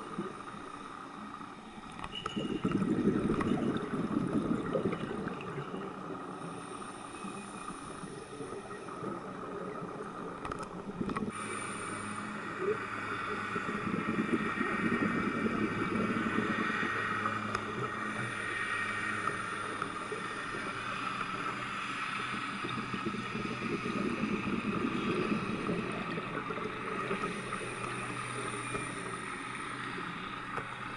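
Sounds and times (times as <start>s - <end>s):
underwater hiss and crackle: 0.0s - 30.9s.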